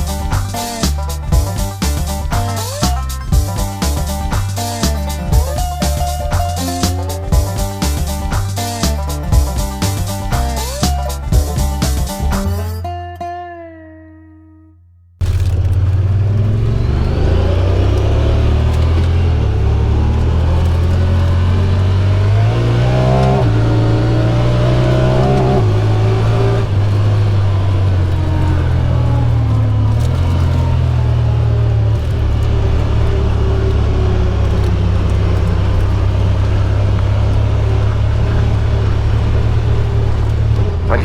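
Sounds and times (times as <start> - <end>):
vehicle engine running: 0.0 - 12.6, 15.2 - 41.0.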